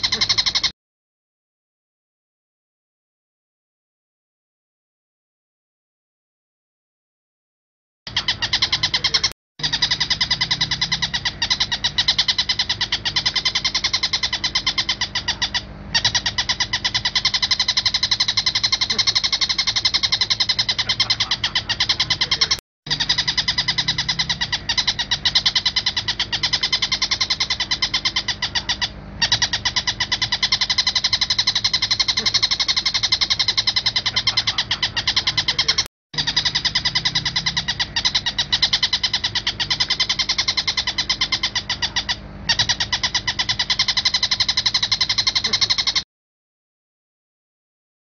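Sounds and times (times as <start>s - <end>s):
bird calling in rapid run: 0.0s - 0.7s, 8.1s - 46.0s.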